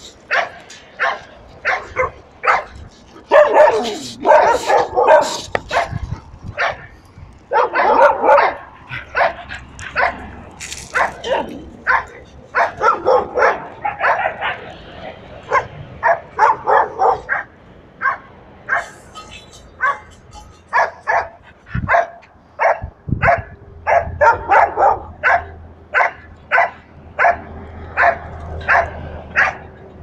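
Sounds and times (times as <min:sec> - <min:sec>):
dog barking: 0:00.3 - 0:06.0, 0:06.6 - 0:10.3, 0:10.9 - 0:14.7, 0:15.5 - 0:19.0, 0:19.8 - 0:20.1, 0:20.7 - 0:29.7.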